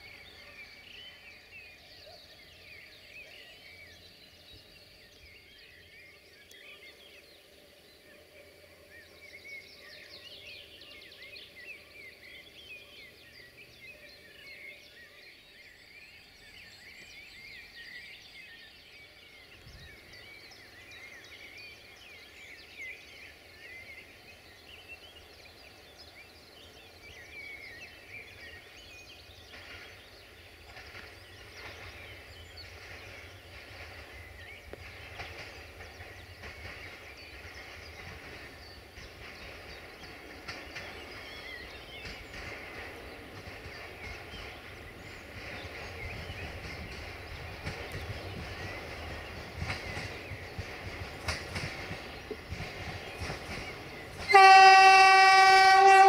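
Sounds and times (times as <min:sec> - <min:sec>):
songbirds chirping: 0:00.0 - 0:56.0
train engine rumble: 0:00.0 - 0:56.0.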